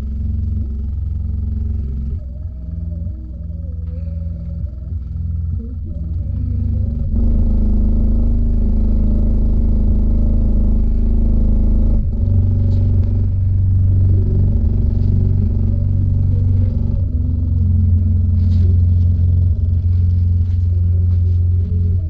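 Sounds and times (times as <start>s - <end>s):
subwoofer playing deep bass: 0.0s - 22.0s.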